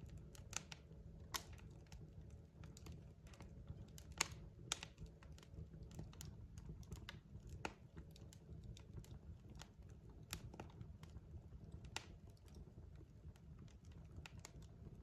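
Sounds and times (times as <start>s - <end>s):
burning logs popping: 0.0s - 15.0s
low steady rumble of fire: 0.0s - 15.0s
wood fire crackling: 0.0s - 15.0s.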